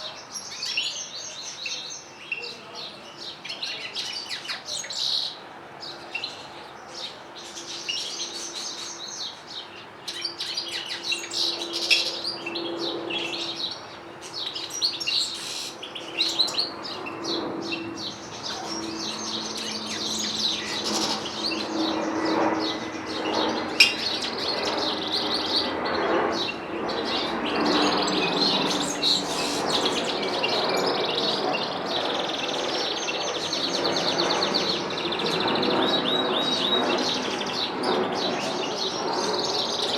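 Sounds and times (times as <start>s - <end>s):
songbirds twittering and trilling: 0.0s - 39.9s.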